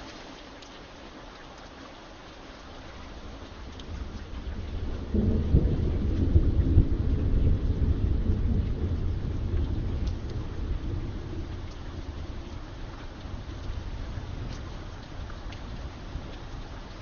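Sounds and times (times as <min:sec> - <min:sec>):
steady rain: 0:00.0 - 0:17.0
thunder rumbling: 0:03.3 - 0:17.0.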